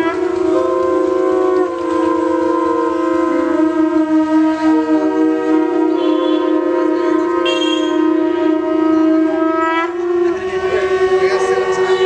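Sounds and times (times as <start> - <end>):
conch shells blowing: 0.0 - 12.0.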